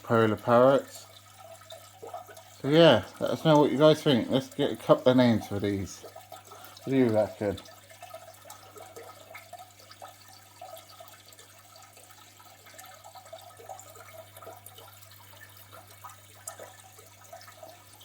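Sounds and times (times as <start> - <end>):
aquarium water trickling: 0.0 - 18.0
water drips and splashes: 0.0 - 18.0.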